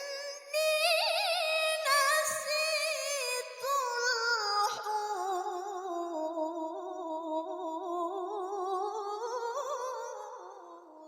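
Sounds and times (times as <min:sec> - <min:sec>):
woman reciting with long wavering note: 0:00.0 - 0:11.0.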